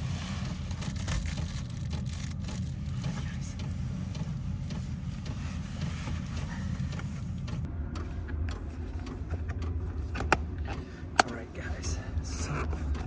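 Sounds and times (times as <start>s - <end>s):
diesel heater rumbling: 0.0s - 13.0s.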